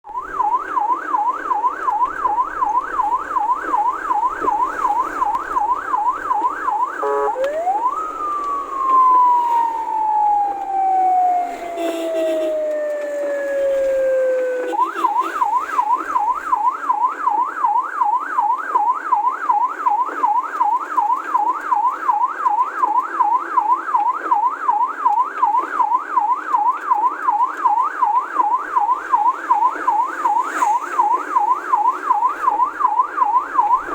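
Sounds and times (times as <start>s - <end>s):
electronic siren yelp: 0.0s - 33.9s
siren wail: 0.0s - 33.9s.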